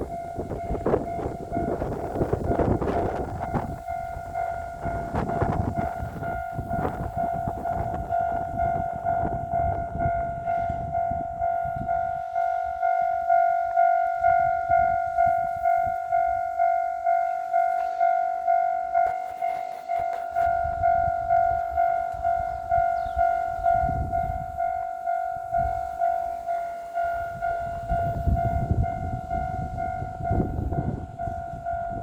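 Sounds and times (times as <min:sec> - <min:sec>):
level crossing bell ringing: 0:00.0 - 0:32.0
train rumble and wheel clatter: 0:00.0 - 0:32.0.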